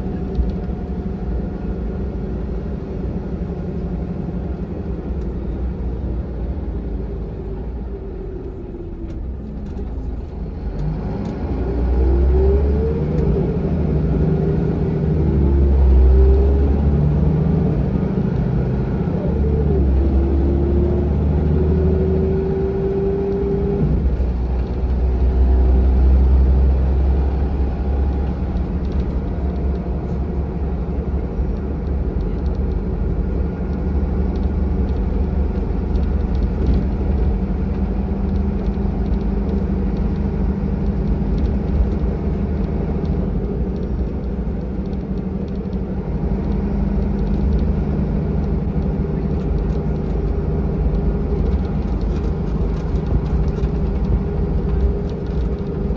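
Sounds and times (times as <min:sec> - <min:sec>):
bus engine rumble: 0:00.0 - 0:55.9
drivetrain whine: 0:00.0 - 0:55.9
road noise: 0:00.0 - 0:55.9.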